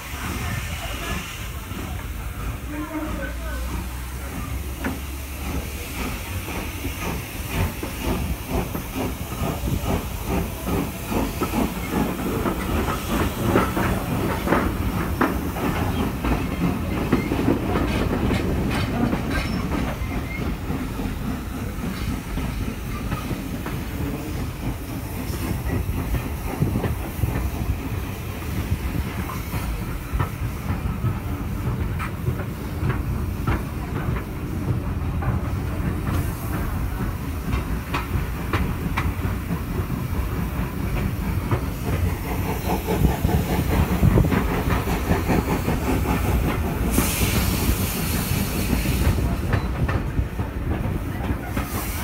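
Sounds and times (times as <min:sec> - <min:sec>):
steam hissing: 0:00.0 - 0:52.0
train wheels clicking over rails: 0:00.0 - 0:52.0.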